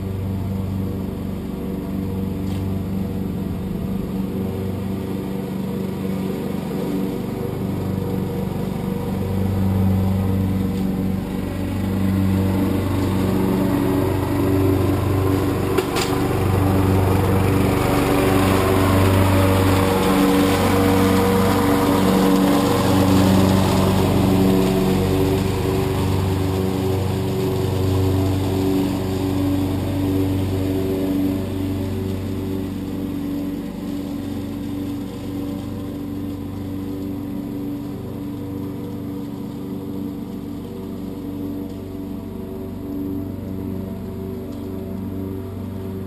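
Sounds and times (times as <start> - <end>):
lawn tractor engine running: 0.0 - 46.0.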